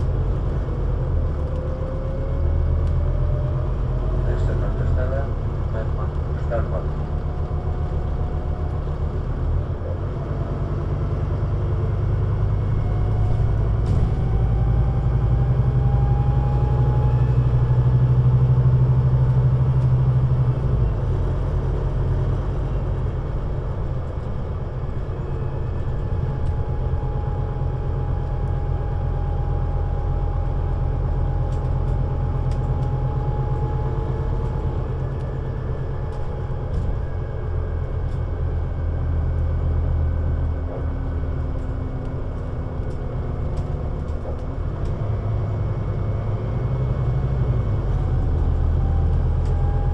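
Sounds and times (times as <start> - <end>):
bus diesel engine pulling: 0.0 - 49.9.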